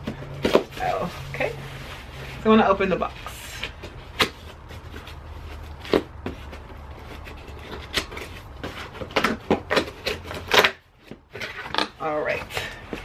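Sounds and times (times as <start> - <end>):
cardboard knocks and scrapes: 0.0 - 2.4, 3.6 - 13.0.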